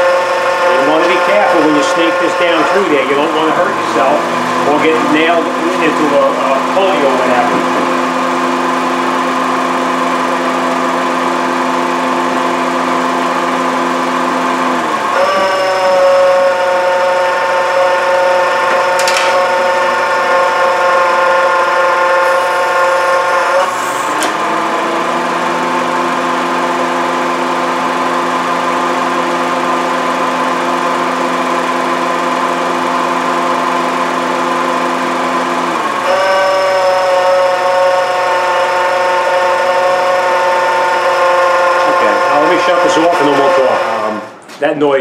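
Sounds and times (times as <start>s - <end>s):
car engine running: 0.0s - 44.5s
ac compressor whine: 0.0s - 45.0s.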